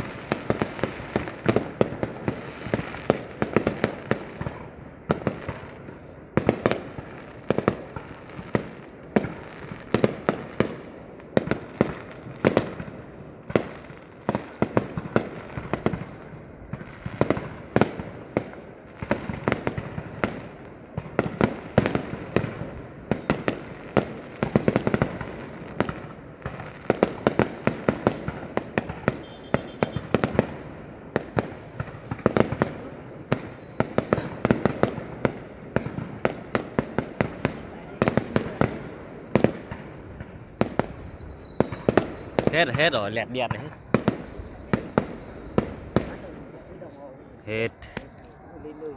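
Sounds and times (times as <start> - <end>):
fireworks bangs: 0.0 - 48.9
fireworks crackling: 0.0 - 48.9.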